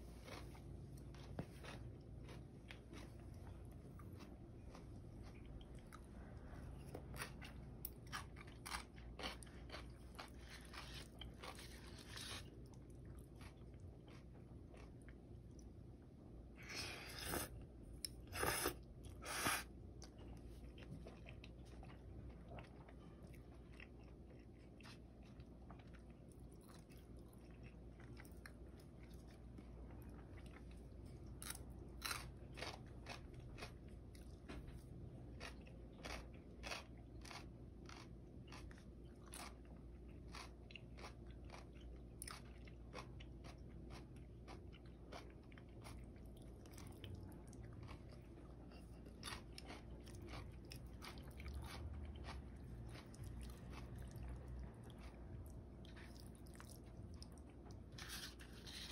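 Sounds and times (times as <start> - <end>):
person chewing noodles: 0.0 - 58.9.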